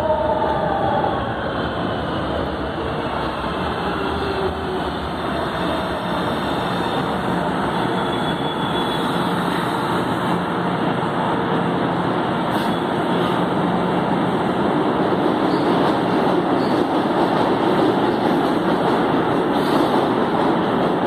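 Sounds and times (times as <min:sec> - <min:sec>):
train rumbling to a stop: 0:00.0 - 0:21.0.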